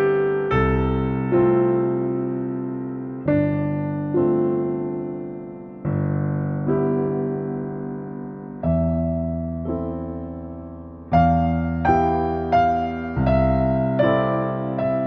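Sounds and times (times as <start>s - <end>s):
slow electric piano chords: 0.0s - 15.0s.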